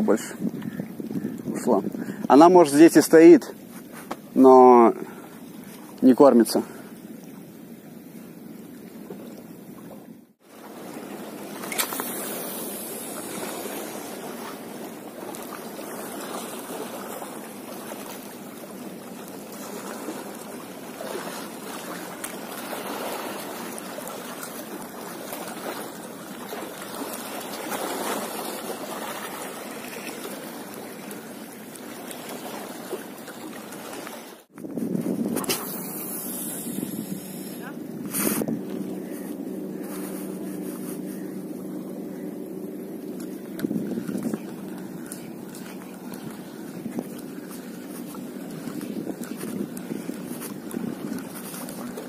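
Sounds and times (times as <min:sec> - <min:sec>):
seawater lapping against shore: 0:00.0 - 0:52.0.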